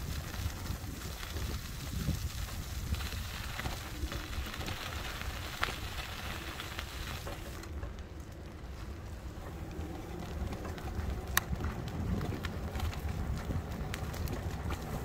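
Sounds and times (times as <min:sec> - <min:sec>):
bicycle tyres hissing on road: 0:00.0 - 0:15.0
wind rumble on microphone: 0:00.0 - 0:15.0.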